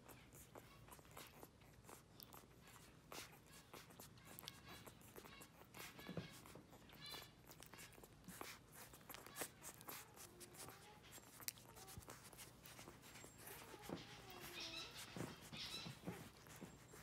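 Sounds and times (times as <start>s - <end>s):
puppies suckling: 0.0s - 17.0s
puppy squeak: 0.0s - 17.0s
puppy whimpers: 0.0s - 17.0s.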